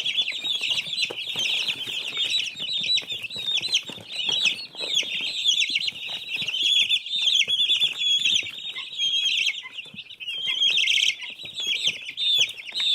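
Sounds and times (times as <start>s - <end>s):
chickens chirping: 0.0s - 12.9s.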